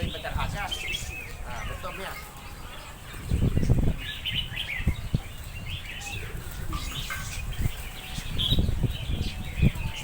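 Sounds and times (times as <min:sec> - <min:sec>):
caged birds chirping: 0:00.0 - 0:10.0.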